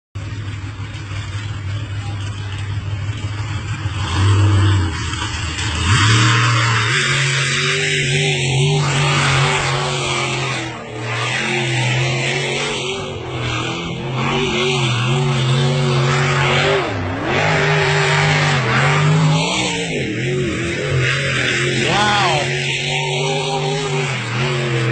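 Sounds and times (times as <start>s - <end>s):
racing car engine revving: 0.2s - 24.9s.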